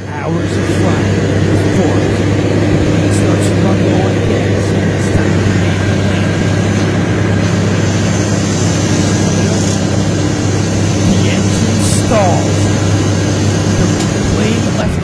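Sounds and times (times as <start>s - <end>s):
small plane engine droning: 0.0s - 15.0s.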